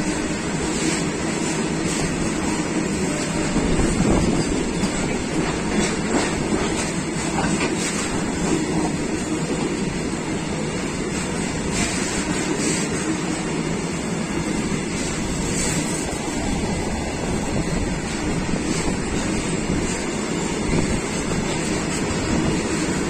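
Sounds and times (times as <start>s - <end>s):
freight wagons rumbling on rails: 0.0s - 23.0s.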